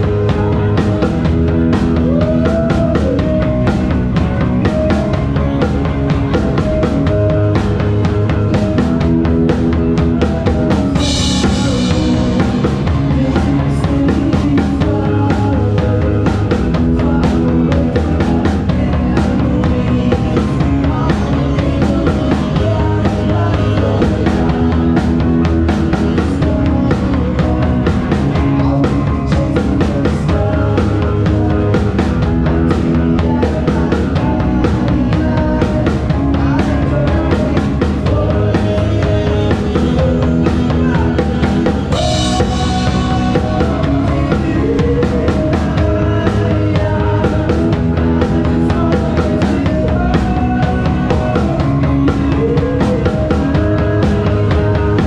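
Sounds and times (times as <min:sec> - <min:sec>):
band playing live: 0:00.0 - 0:55.0
drum kit beat: 0:00.0 - 0:55.0.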